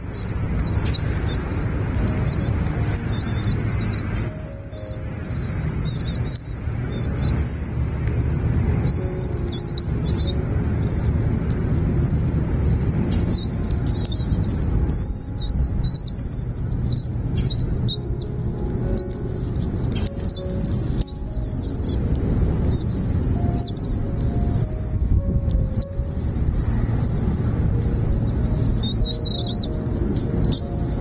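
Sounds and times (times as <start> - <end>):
small birds chirping: 0.0 - 7.8, 8.8 - 11.0, 12.0 - 26.0, 28.1 - 31.0
steady low rumble: 0.0 - 31.0.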